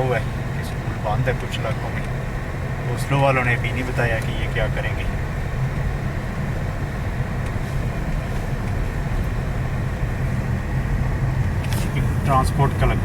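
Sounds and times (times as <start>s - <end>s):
car cabin road and engine noise: 0.0s - 13.0s
tyres rumbling on road: 0.0s - 13.0s.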